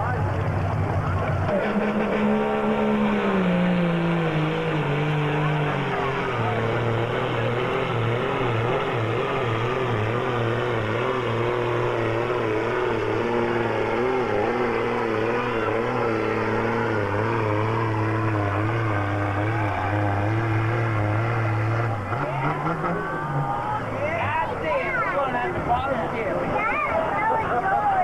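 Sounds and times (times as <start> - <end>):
truck engine running hard: 0.0 - 28.0.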